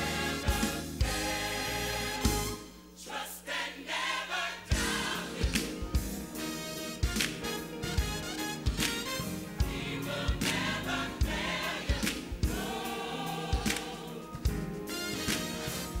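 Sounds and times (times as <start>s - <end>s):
band with drum beat: 0.0s - 2.6s, 4.7s - 16.0s
choir singing gospel: 0.0s - 16.0s.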